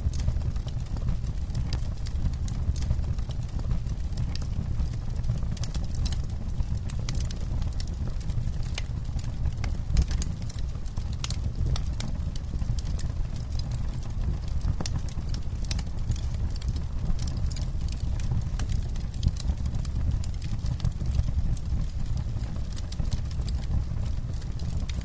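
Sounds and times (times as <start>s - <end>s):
campfire crackling and popping: 0.0s - 25.0s
low rumble of burning fire: 0.0s - 25.0s.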